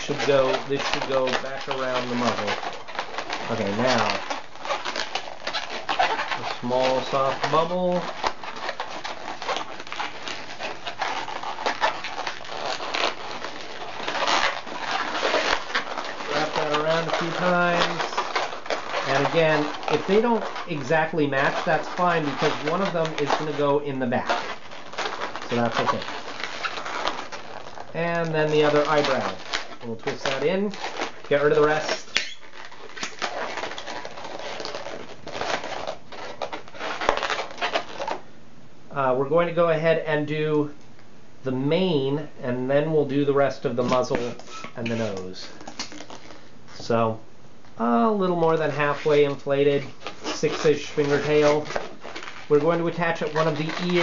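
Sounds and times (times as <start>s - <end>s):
balloons squeaking and rubbing: 0.0s - 38.3s, 41.6s - 54.0s.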